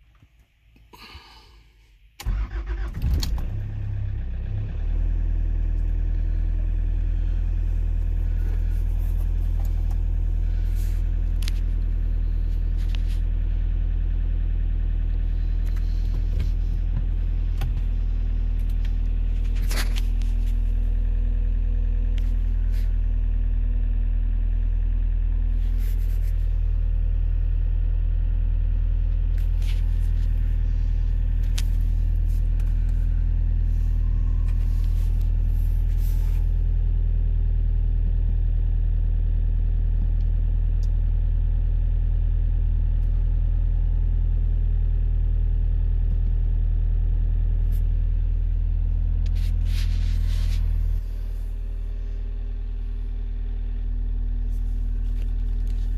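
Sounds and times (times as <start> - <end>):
diesel engine idling: 0.7 - 55.9.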